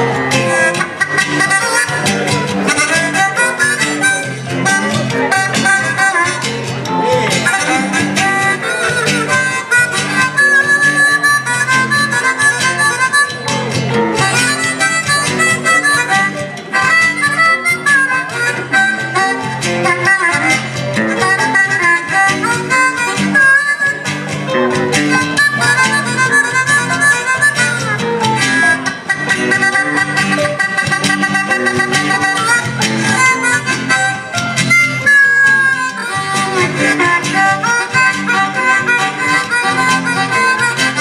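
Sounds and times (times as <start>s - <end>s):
blues harmonica solo: 0.0s - 41.0s
electric and acoustic guitars: 0.0s - 41.0s.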